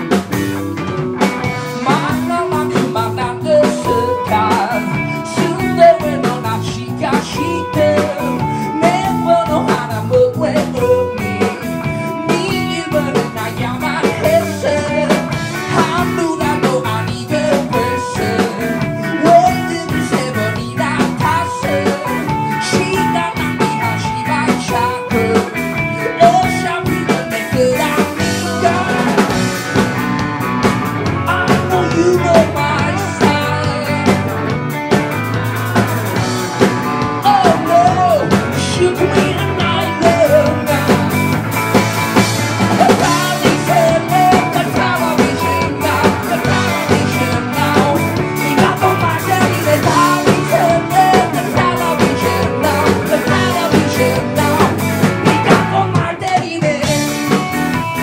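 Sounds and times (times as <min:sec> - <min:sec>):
drum kit: 0:00.0 - 0:58.0
electric guitar: 0:00.0 - 0:58.0
lead singer's vocals: 0:01.4 - 0:29.4, 0:31.2 - 0:34.5, 0:37.0 - 0:41.4, 0:42.6 - 0:57.4.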